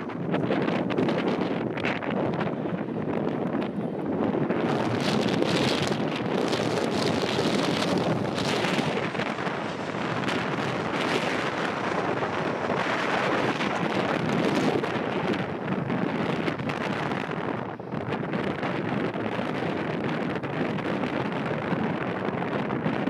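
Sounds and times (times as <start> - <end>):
jet engines rushing: 0.0 - 22.0
wind buffeting microphone: 0.0 - 23.0.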